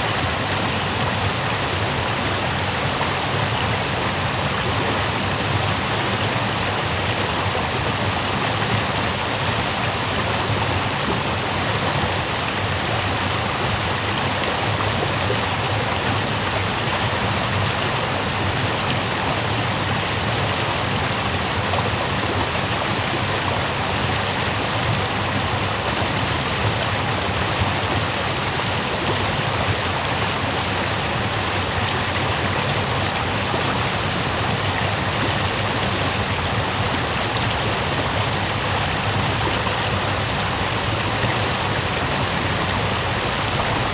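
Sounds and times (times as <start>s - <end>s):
waterfall pouring into pool: 0.0s - 43.9s.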